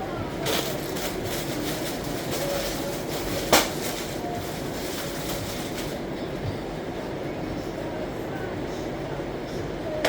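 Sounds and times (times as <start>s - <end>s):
mechanical rumble and hiss: 0.0s - 10.0s.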